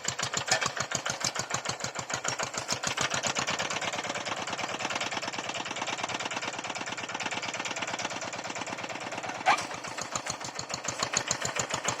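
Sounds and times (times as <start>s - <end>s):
hand tractor engine chugging: 0.0s - 12.0s
light rhythmic clatter: 0.0s - 12.0s.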